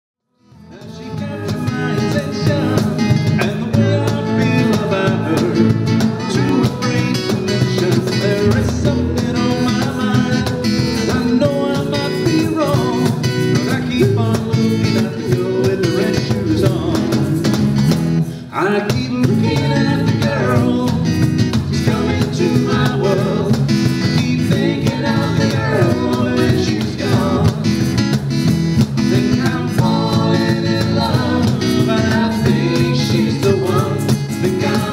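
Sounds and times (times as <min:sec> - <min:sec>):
live band with guitar: 0:00.4 - 0:34.9.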